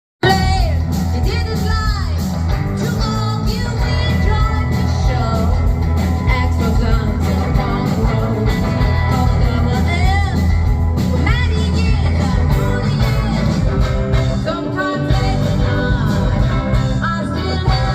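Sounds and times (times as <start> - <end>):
person singing: 0.2 - 17.9
rockabilly band playing: 0.2 - 17.9.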